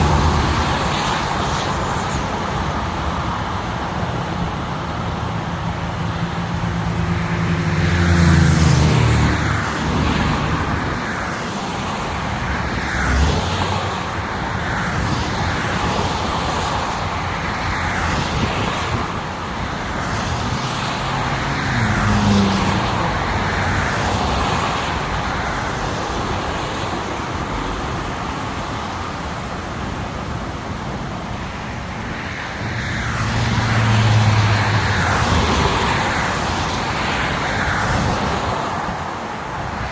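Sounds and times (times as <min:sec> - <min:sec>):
highway traffic passing: 0:00.0 - 0:39.9.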